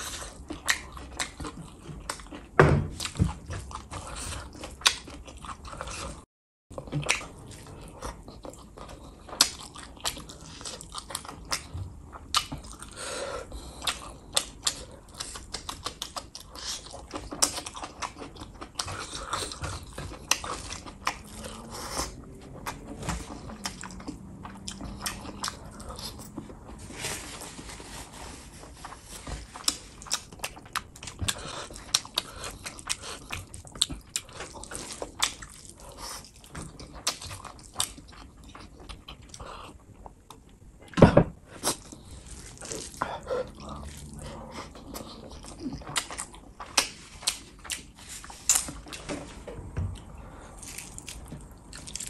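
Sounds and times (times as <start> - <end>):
wet chewing and lip smacking: 0.0 - 6.2, 6.8 - 26.6, 28.6 - 40.5, 41.6 - 49.0.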